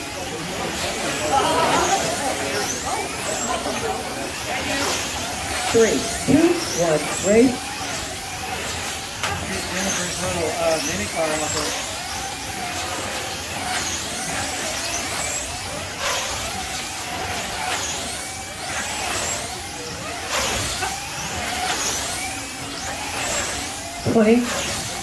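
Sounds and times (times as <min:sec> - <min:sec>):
slot car motors whining: 0:00.0 - 0:25.0.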